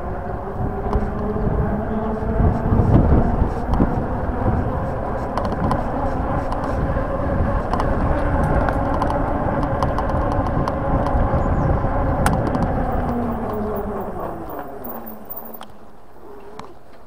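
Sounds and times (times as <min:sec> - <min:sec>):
electric motor whine: 0:00.0 - 0:15.9
wind rushing over microphone: 0:00.0 - 0:16.8.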